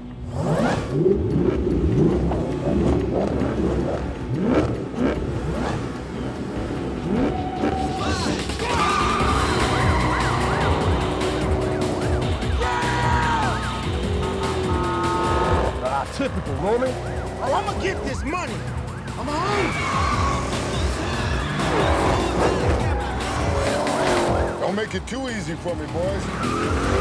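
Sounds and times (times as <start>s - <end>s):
car engines revving: 0.0s - 27.0s
police sirens wailing: 4.2s - 27.0s.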